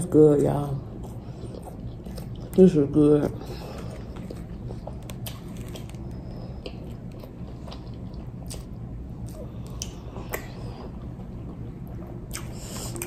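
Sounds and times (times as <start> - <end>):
steady low hum: 0.0 - 13.0
person chewing with crunches: 0.3 - 13.0.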